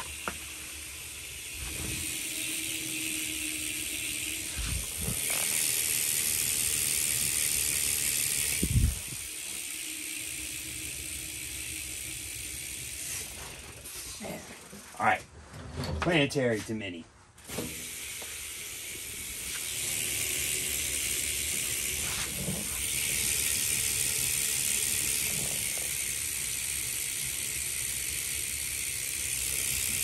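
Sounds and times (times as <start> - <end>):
bicycle hub clicking buzz: 0.0 - 15.0, 17.4 - 30.0.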